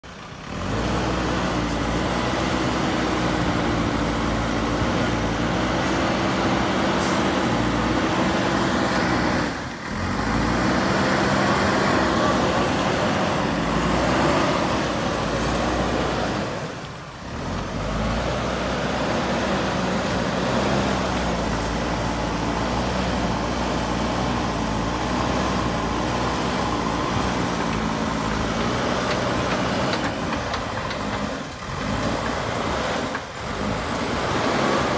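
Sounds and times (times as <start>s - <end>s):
diesel engine revving: 0.0s - 34.9s.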